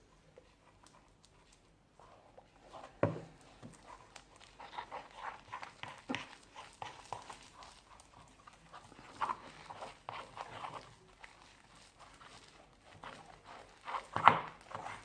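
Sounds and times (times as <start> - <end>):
slime squelching by hand: 0.5 - 15.0.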